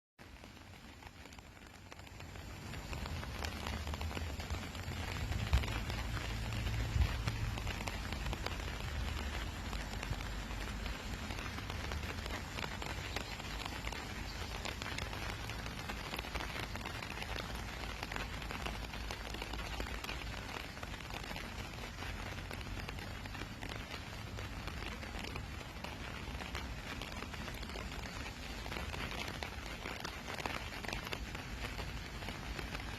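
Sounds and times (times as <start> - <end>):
steady rain falling: 0.2 - 32.9.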